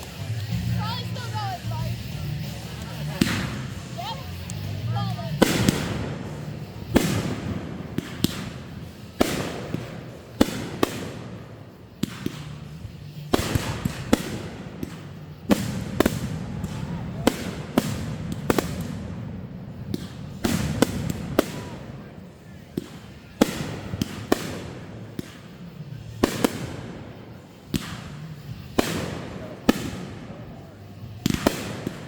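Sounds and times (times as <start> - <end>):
fireworks banging: 0.0 - 32.0.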